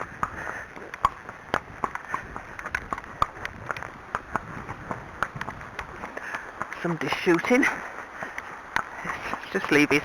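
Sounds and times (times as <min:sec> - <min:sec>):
horse hoofbeats: 0:00.0 - 0:10.0.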